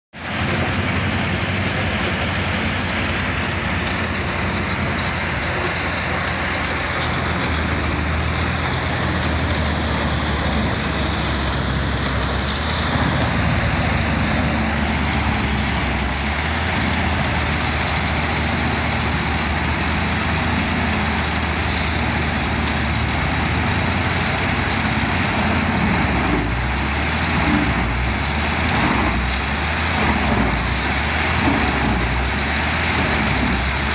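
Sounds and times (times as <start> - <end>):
low engine hum: 0.2 - 33.9
wood chipper chipping and blowing: 0.2 - 33.9.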